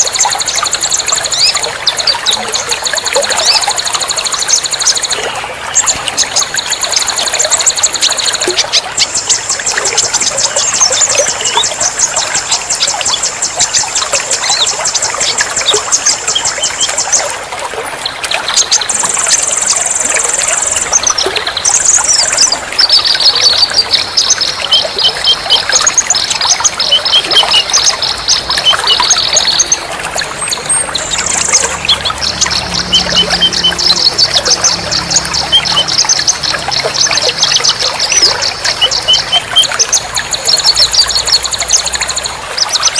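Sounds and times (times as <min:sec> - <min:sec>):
songbirds trilling: 0:00.0 - 0:42.9
trickling water: 0:00.0 - 0:42.9.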